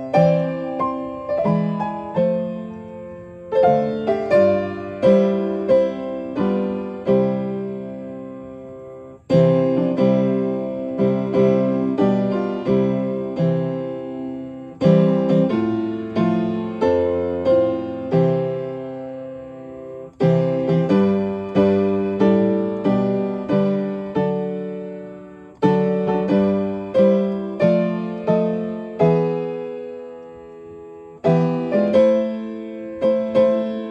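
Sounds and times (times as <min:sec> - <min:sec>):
upright piano playing hymn chords: 0:00.0 - 0:33.9.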